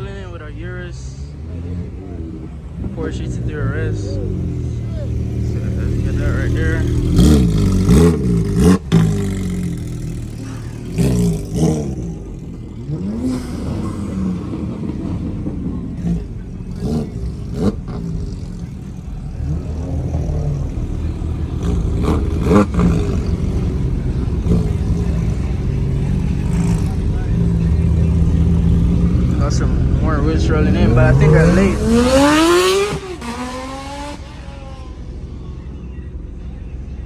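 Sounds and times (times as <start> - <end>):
car engines running: 0.0 - 37.0
engine revs: 0.0 - 37.0.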